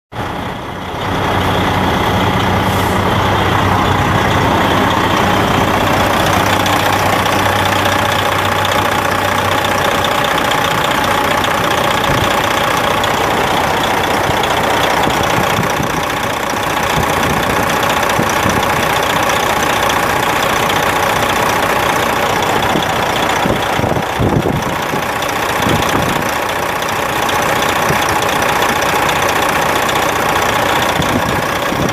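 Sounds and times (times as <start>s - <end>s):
diesel engine idling: 0.2s - 31.9s.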